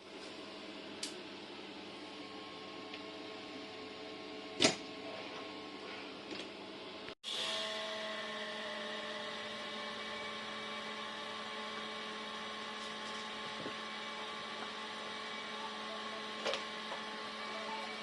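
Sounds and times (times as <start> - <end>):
electrical hum: 0.0 - 7.2, 7.8 - 18.0.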